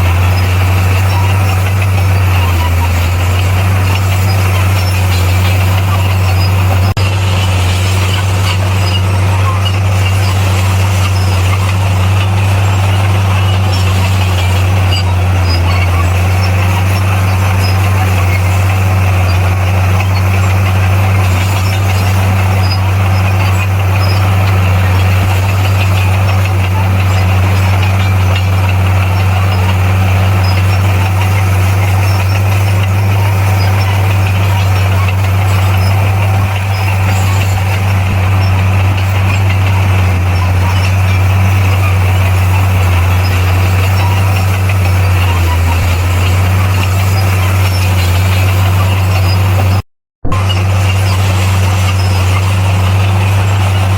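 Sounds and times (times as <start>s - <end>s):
diesel engine deep hum: 0.0s - 53.9s.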